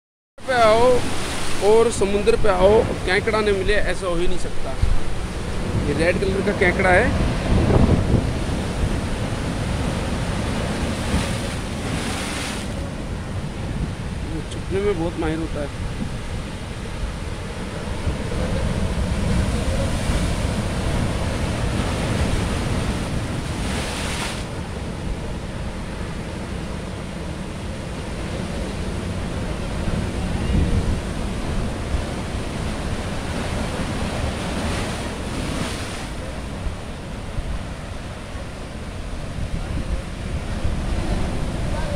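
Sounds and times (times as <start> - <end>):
waves washing on rocky shore: 0.4 - 41.9
wind rumbling on microphone: 0.6 - 41.9.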